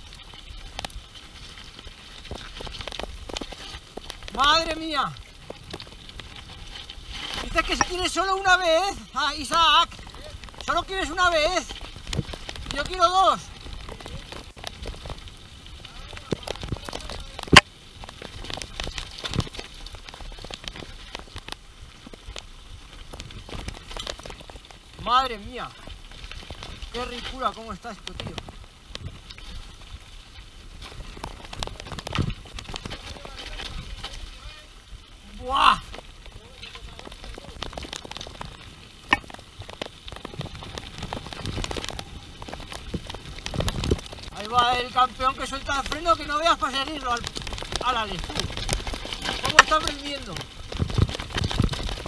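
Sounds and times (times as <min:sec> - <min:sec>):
bike rattling and knocking: 0:00.0 - 0:34.6, 0:35.8 - 0:52.0
tyres crunching over leaves and stones: 0:00.0 - 0:52.0.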